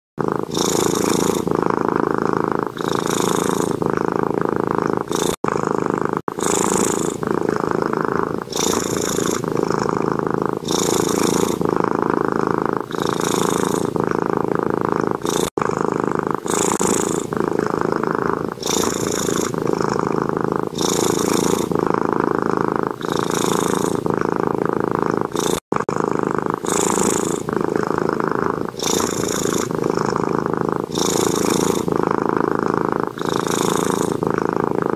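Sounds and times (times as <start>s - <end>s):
cat purring: 0.2s - 34.9s.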